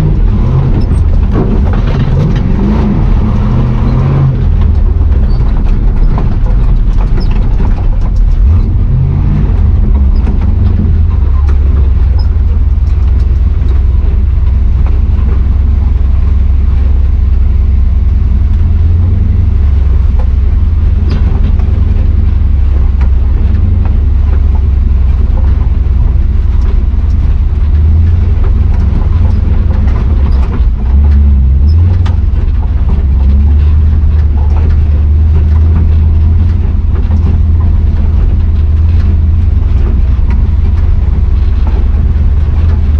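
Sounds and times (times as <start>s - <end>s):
truck engine droning: 0.0s - 42.9s
light knocks and rattles: 0.6s - 17.7s, 18.5s - 42.9s.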